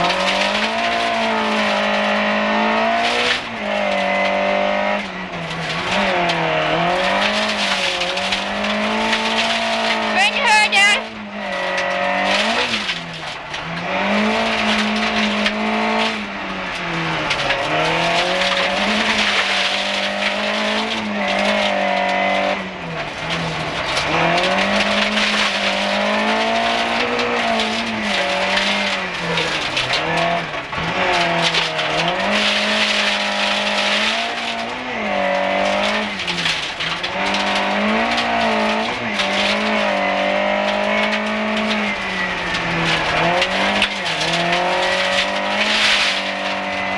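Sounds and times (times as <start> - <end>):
gravel and road noise hiss: 0.0 - 46.9
rally car engine revving: 0.0 - 46.9.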